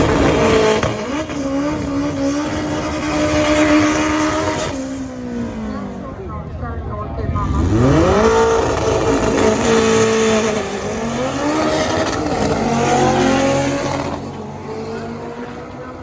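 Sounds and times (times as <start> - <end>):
drag car engines revving: 0.0 - 16.0.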